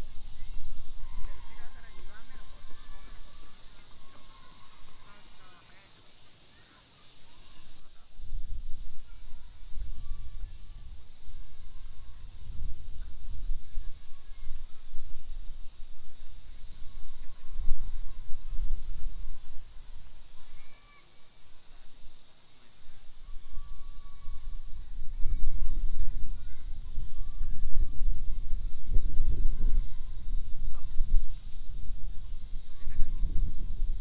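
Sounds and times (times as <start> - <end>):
wind rumbling on microphone: 0.0 - 5.6, 7.3 - 34.0.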